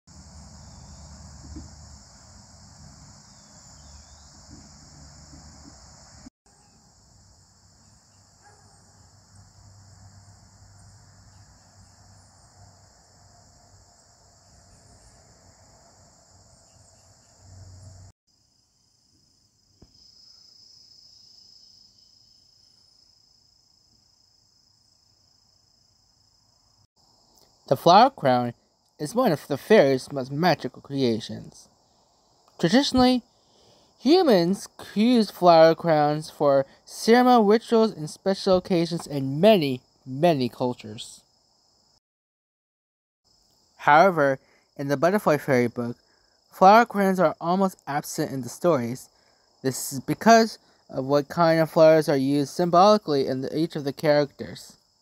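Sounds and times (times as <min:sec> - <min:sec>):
crickets chirping: 0:00.1 - 0:42.0, 0:43.3 - 0:55.0.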